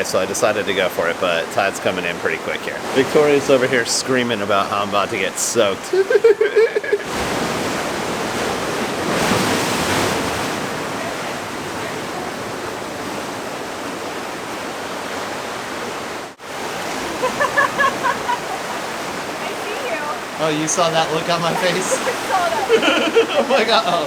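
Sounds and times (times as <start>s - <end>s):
surf washing over rocks: 0.0s - 24.0s.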